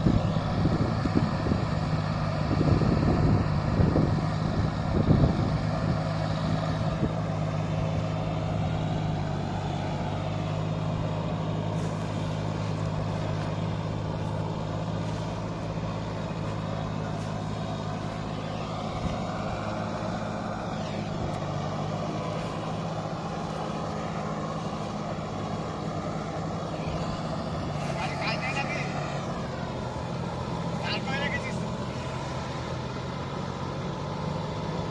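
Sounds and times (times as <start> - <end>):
rotavator working through mud: 0.0 - 34.9
tractor diesel engine under load: 0.0 - 34.9.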